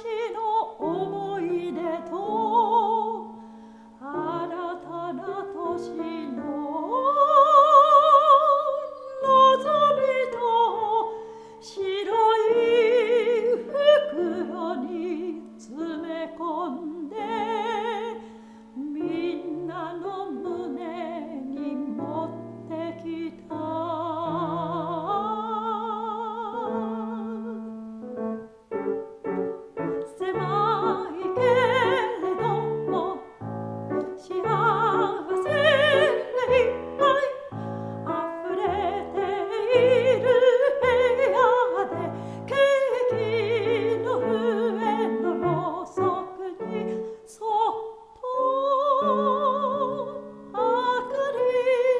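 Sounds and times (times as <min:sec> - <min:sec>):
piano accompaniment: 0:00.0 - 0:51.9
soprano singing with vibrato: 0:00.0 - 0:51.9.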